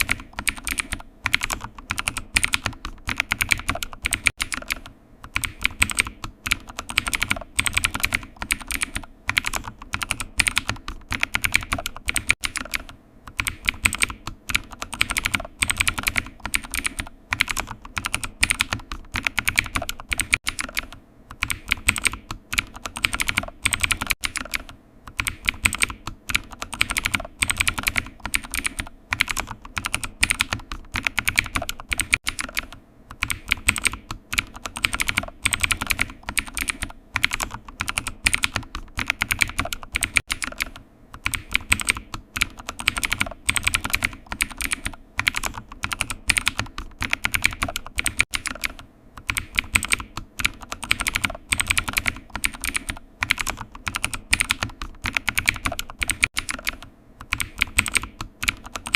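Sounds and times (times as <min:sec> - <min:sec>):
computer keyboard typing: 0:00.0 - 0:58.9.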